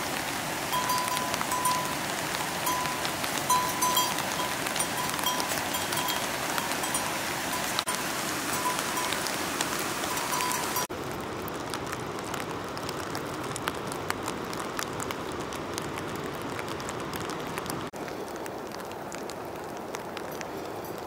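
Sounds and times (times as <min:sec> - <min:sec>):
raindrops ticking: 0:00.0 - 0:21.0
steady rain: 0:00.0 - 0:21.0.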